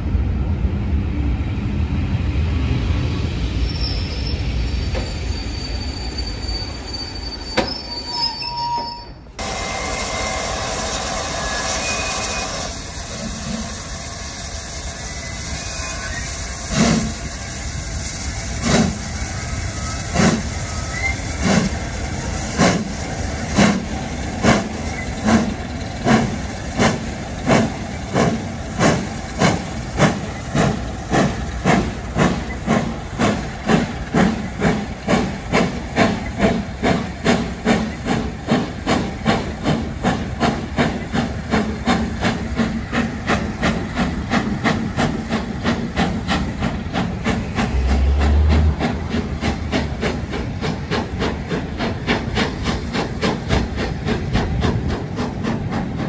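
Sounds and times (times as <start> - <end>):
steam hiss: 9.4 - 56.0
steam locomotive exhaust beats: 9.4 - 56.0.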